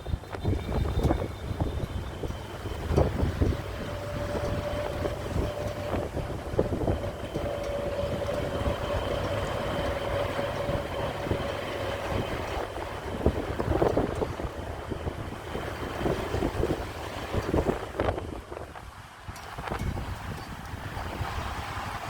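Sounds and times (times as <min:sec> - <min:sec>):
jet engines rumbling and whining: 0:00.0 - 0:22.0
wind buffeting microphone: 0:00.0 - 0:22.0.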